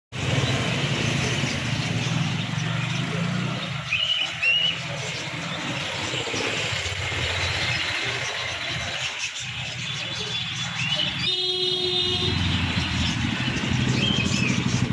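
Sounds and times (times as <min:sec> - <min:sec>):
busy background noise: 0:00.2 - 0:14.9.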